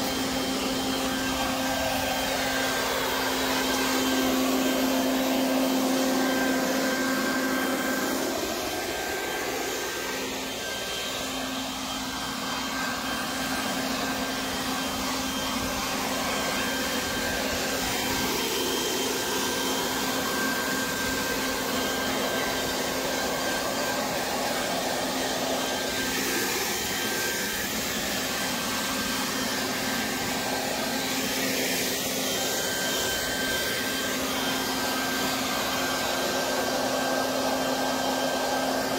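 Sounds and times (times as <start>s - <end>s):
leaf blower motor whine: 0.0s - 38.9s.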